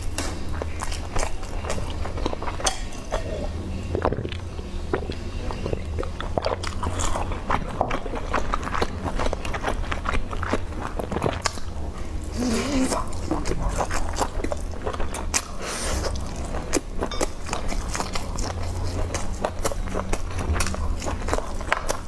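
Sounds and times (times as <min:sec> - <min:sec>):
low steady hum: 0:00.0 - 0:22.0
chewing with wet mouth clicks: 0:00.1 - 0:22.0.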